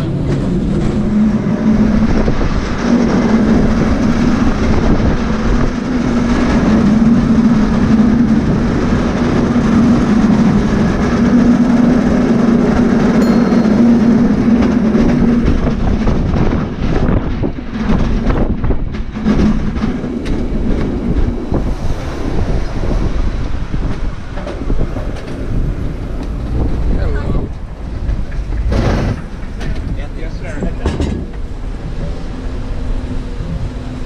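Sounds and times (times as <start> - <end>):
cable car rumbling and rattling: 0.0 - 34.0.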